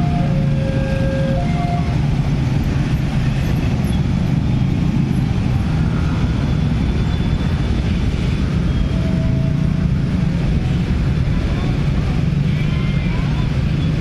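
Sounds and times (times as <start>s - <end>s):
many motorcycle engines droning: 0.0s - 14.0s.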